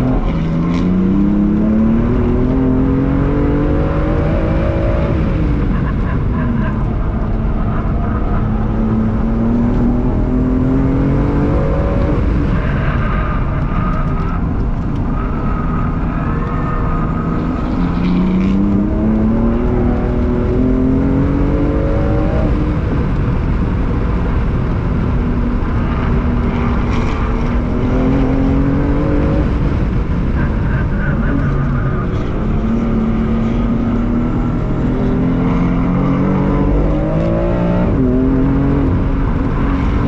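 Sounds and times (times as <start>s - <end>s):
car engine revving: 0.0s - 40.0s
road and tyre noise: 0.0s - 40.0s.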